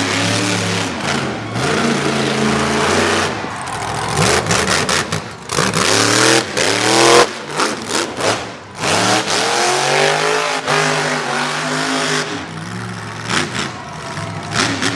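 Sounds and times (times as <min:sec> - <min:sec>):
monster truck engine revving: 0:00.0 - 0:14.9.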